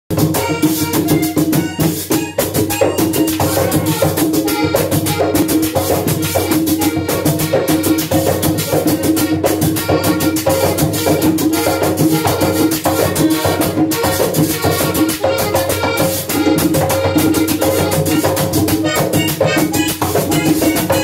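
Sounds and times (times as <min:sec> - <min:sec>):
folk drum percussion: 0:00.1 - 0:21.0.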